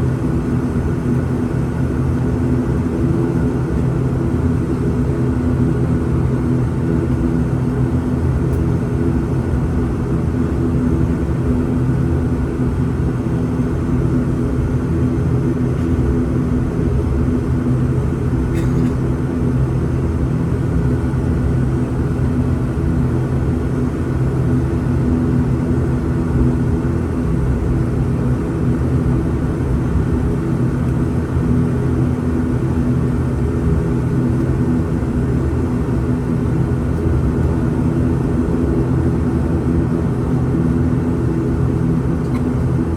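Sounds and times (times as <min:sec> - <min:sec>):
turboprop engines droning: 0:00.0 - 0:42.9.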